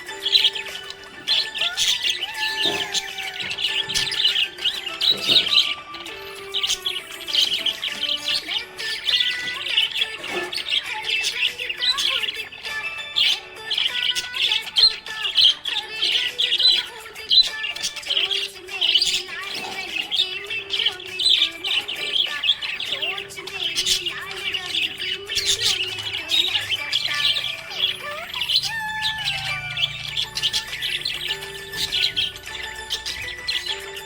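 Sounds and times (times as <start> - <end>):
background music: 0.0 - 34.0
budgerigars chirping: 0.0 - 34.0.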